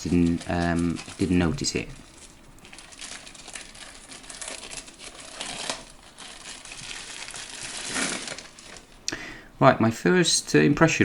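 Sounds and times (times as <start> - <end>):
packaging rustling and crinkling: 0.0 - 9.0.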